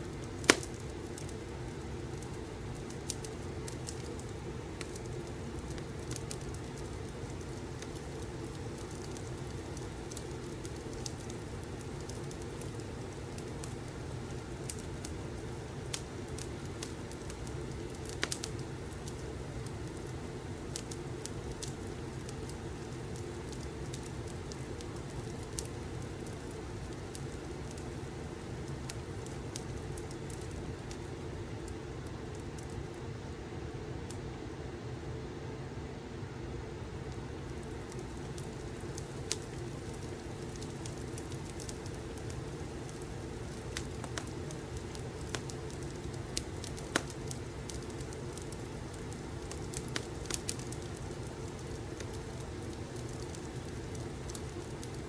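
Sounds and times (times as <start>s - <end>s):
burning logs rumbling: 0.0s - 34.3s, 36.7s - 55.0s
fire crackles and pops: 0.0s - 34.6s, 36.5s - 55.0s.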